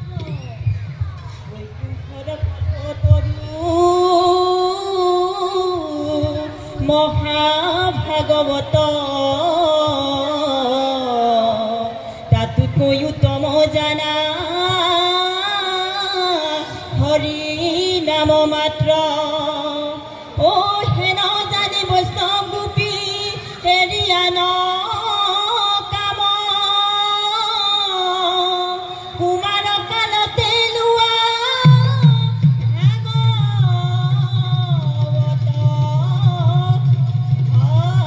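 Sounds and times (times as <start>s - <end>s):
man singing into microphone: 1.5s - 38.0s.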